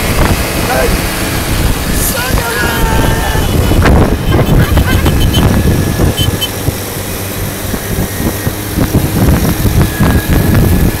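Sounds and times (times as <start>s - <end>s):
moped engines running: 0.0s - 11.0s
wind buffeting microphone: 0.0s - 11.0s.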